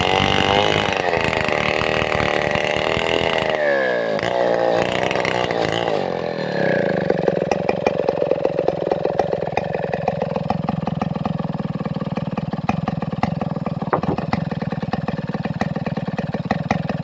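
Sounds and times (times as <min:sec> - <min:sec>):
chainsaw engine idling: 0:00.0 - 0:17.0.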